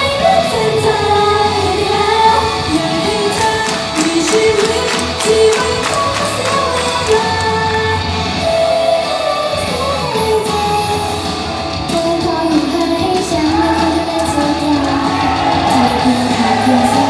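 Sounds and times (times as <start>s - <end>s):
women singing: 0.0s - 11.3s, 11.9s - 17.0s
backing track with guitar: 0.0s - 17.0s.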